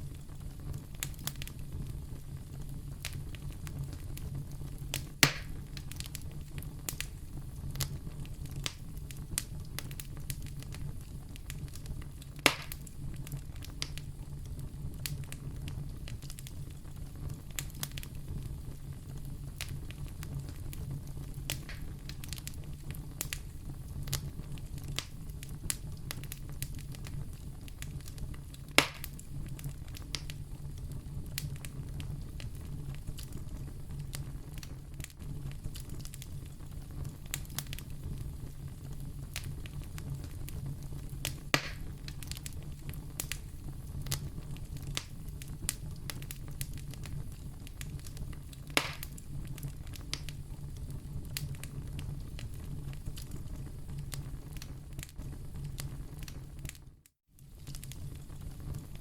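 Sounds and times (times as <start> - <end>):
loud fire pops: 0.0 - 56.8
fireplace fire crackling: 0.0 - 59.0
low fire rumble: 0.0 - 59.0.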